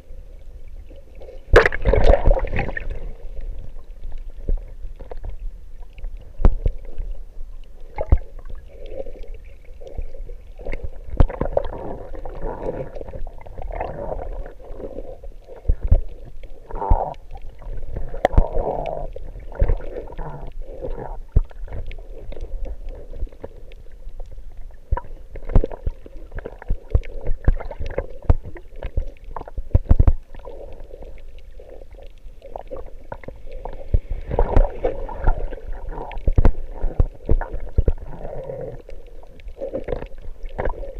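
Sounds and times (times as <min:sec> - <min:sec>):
underwater rumbling and gurgling: 0:00.0 - 0:40.9.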